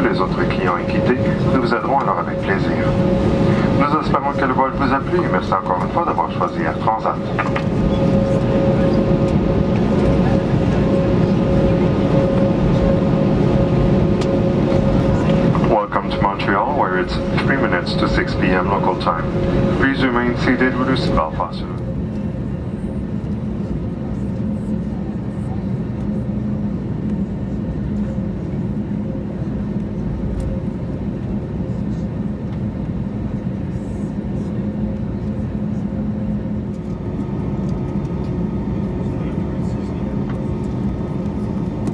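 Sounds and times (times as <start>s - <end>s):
aircraft cabin rumble: 0.0s - 41.9s
constant hum: 0.0s - 41.9s.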